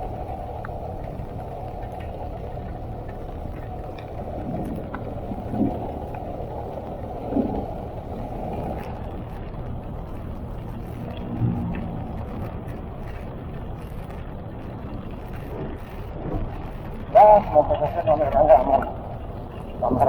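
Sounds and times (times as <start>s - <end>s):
vehicle rumbling in heavy rain: 0.0s - 20.0s.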